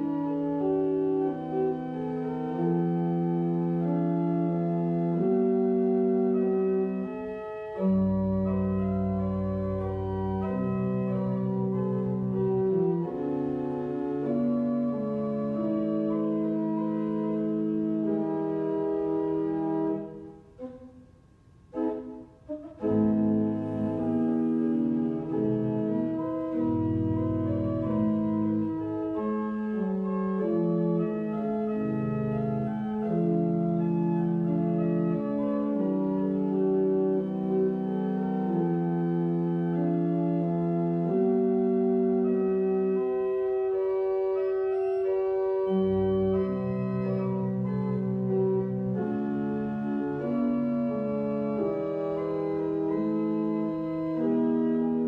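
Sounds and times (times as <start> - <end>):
pipe organ chords: 0.0 - 55.0.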